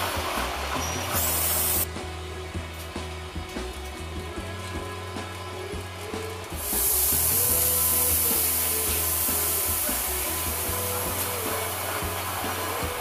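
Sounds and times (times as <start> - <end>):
diesel locomotive running: 0.0 - 13.0
loud steady hiss: 0.0 - 13.0.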